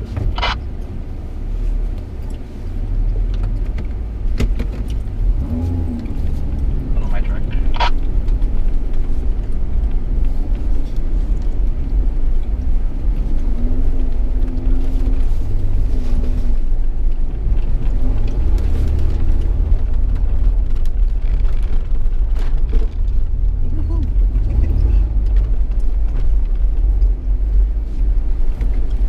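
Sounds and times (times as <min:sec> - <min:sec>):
off-road vehicle engine running: 0:00.0 - 0:29.0
steady low rumble: 0:00.0 - 0:29.0.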